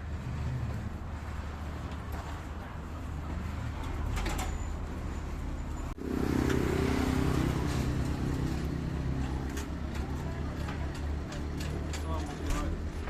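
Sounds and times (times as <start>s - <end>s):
street noise: 0.0s - 13.0s
vehicle engine rumbling: 0.0s - 13.0s.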